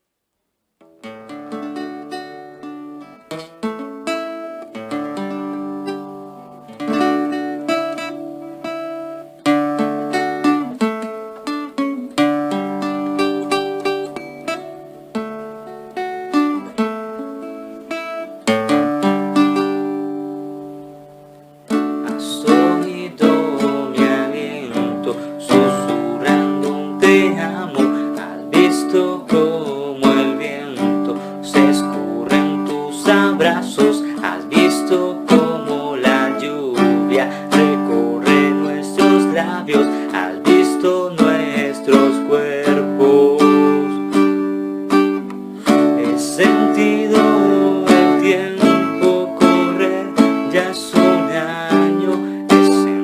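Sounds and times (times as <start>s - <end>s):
plucked string instrument: 0.8s - 53.0s.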